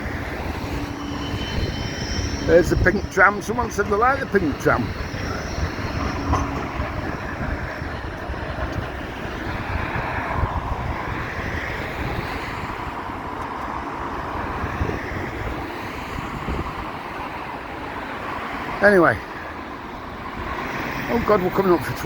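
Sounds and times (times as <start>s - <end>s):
faint vehicle whine: 0.0s - 22.0s
passing traffic: 0.0s - 22.0s
wind buffeting microphone: 0.0s - 22.0s.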